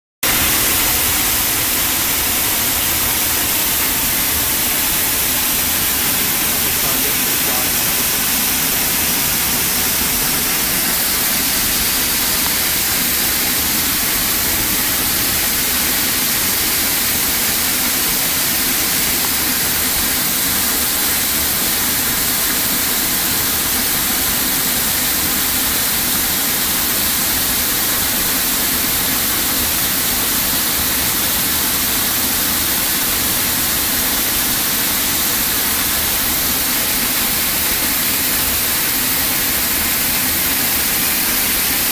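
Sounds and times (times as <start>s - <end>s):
waterfall rushing and splashing: 0.2s - 41.9s.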